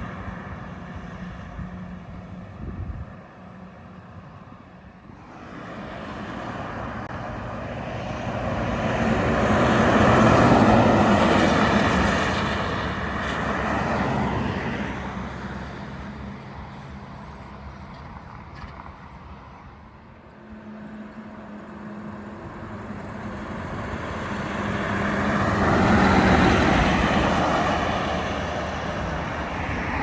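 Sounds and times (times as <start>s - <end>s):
truck passing by: 0.0s - 30.0s.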